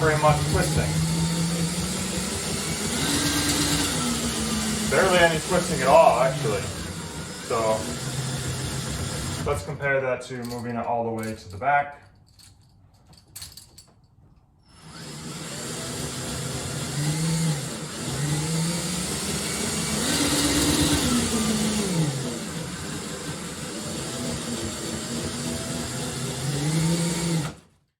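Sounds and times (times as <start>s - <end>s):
shake table motor running: 0.0s - 9.7s, 14.7s - 27.8s.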